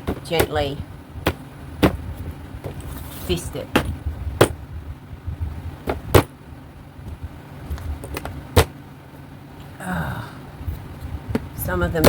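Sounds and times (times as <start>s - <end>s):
low rumbling of panel handled: 0.0s - 8.8s, 10.5s - 12.0s.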